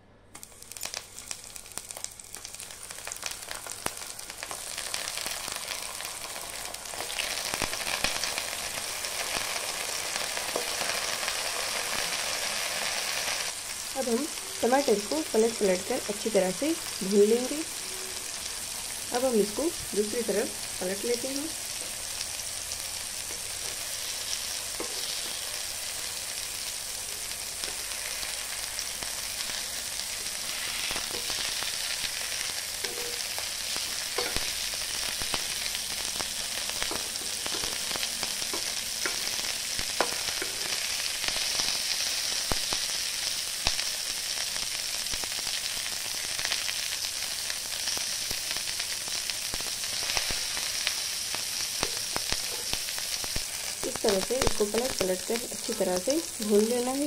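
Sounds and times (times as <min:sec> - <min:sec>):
tomatoes sizzling in oil: 0:00.3 - 0:57.0.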